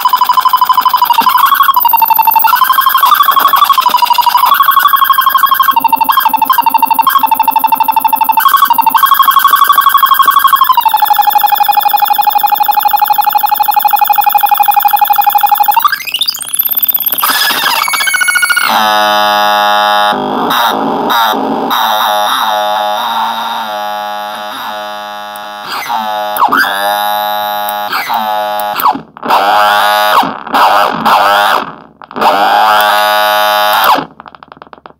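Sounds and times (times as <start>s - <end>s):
buzzing synthesizer tone: 0.0s - 28.9s.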